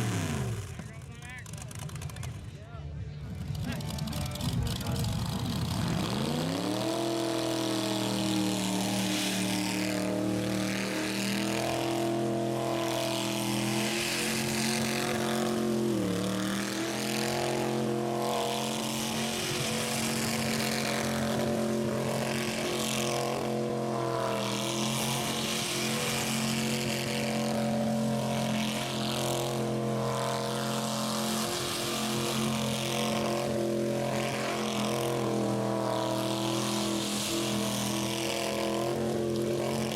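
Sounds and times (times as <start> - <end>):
car engine at high revs: 0.0 - 2.5, 3.2 - 39.9
constant rushing noise: 0.0 - 39.9.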